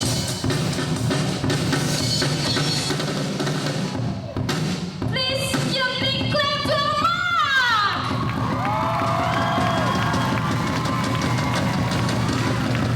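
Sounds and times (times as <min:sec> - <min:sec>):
drum kit pounding: 0:00.0 - 0:07.2, 0:07.9 - 0:12.9.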